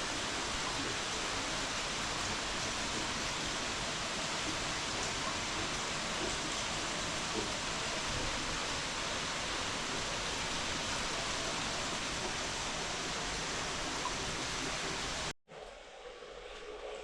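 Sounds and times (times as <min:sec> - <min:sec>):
rush of falling water: 0:00.0 - 0:15.3.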